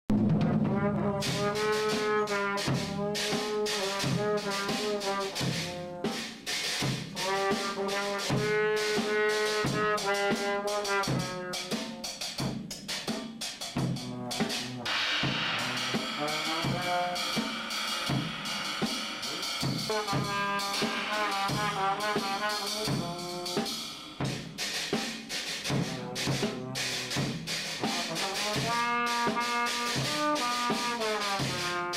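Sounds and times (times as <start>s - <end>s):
drum kit being struck: 0.1s - 31.9s
brass horn holding notes: 0.2s - 12.1s, 13.9s - 24.3s, 25.7s - 31.9s.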